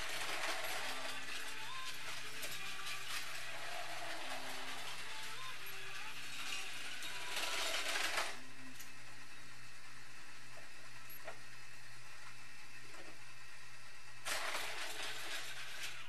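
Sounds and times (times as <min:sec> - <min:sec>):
toy train motor and gears running: 0:00.0 - 0:16.0.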